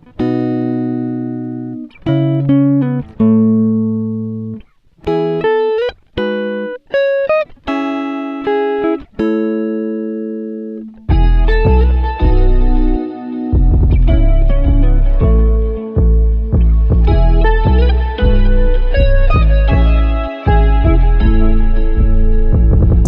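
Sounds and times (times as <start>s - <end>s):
plucked string chords: 0.0s - 23.0s.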